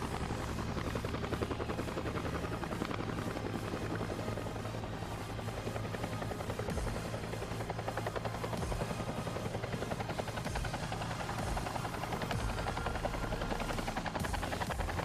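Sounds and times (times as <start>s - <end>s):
helicopter engine hum: 0.0s - 15.0s
helicopter rotor chop: 0.0s - 15.0s.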